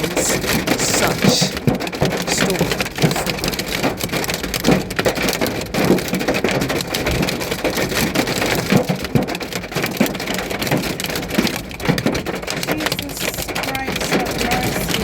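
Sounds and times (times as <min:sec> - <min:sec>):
hailstones clattering: 0:00.0 - 0:15.0
heavy rain: 0:00.0 - 0:15.0.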